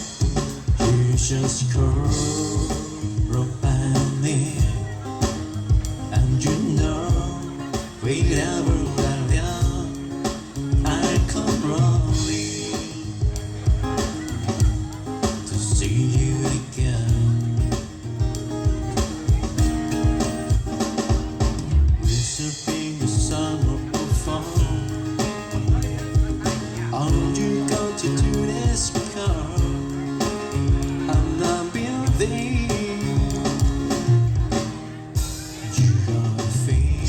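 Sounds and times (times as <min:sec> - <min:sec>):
person singing: 0:00.0 - 0:18.3, 0:21.9 - 0:37.0
live band playing: 0:00.0 - 0:37.0.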